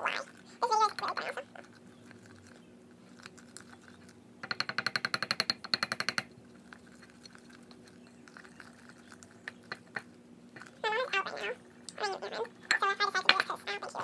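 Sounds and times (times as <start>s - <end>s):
spoon scraping batter in mug: 0.2s - 11.8s.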